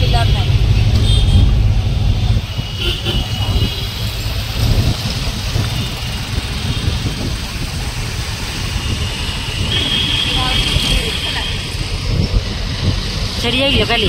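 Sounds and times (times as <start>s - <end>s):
engine and tyre rumble: 0.0s - 14.0s
hiss of surrounding traffic: 0.0s - 14.0s.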